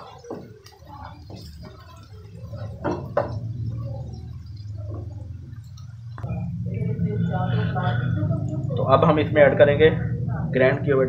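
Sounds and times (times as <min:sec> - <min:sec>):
low steady hum: 0:00.0 - 0:11.0
onions frying in oil: 0:00.0 - 0:11.0.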